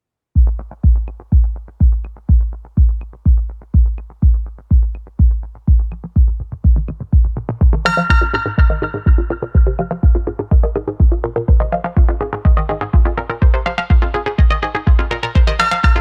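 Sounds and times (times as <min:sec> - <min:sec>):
electronic dance music: 0:00.4 - 0:16.0
kick drum: 0:00.4 - 0:16.0
synthesizer chords: 0:00.4 - 0:16.0.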